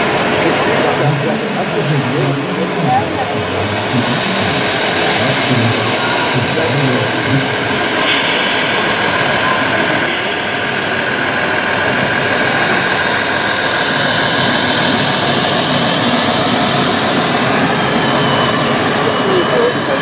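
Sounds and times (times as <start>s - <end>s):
model truck diesel idling: 0.0s - 17.0s
busy hall din: 0.0s - 20.0s.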